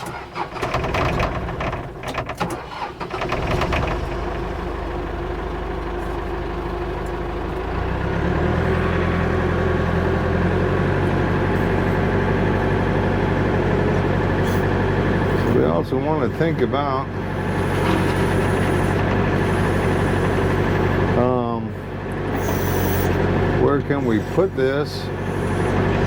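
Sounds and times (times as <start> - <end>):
backhoe clunks: 0.0 - 26.0
tractor engine running: 0.0 - 26.0.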